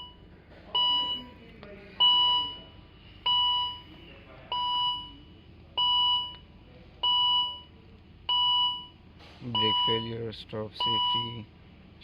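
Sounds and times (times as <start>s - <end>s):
dashboard warning chime beeping: 0.0s - 1.4s, 2.0s - 3.9s, 4.5s - 9.0s, 9.6s - 11.5s.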